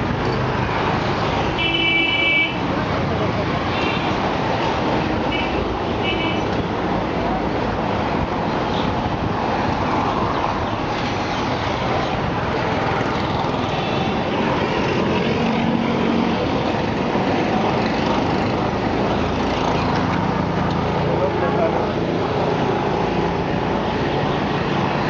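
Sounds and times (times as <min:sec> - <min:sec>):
steady vehicle noise: 0:00.0 - 0:25.0.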